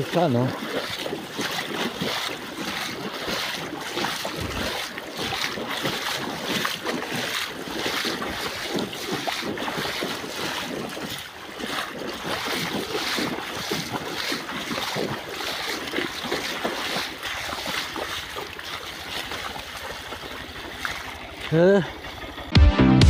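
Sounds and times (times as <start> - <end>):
floodwater rushing: 0.0 - 22.6
wind buffeting microphone: 0.3 - 22.4.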